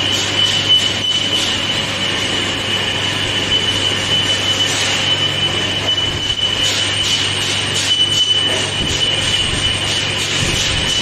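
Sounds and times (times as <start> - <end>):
drill cutting high-pitched squeal: 0.0 - 11.0
low machine hum: 0.0 - 11.0.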